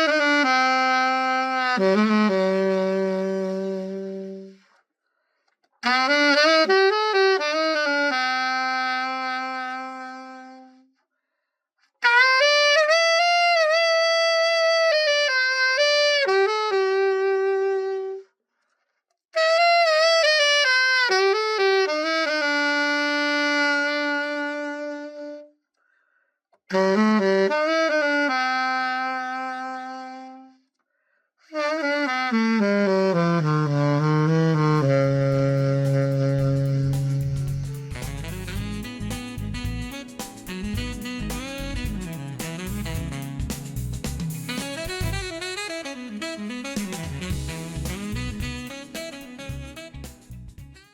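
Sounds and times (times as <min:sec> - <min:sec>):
solo saxophone playing: 0:00.0 - 0:04.8, 0:05.8 - 0:10.9, 0:12.0 - 0:18.3, 0:19.4 - 0:25.6, 0:26.7 - 0:30.7, 0:31.5 - 0:50.9.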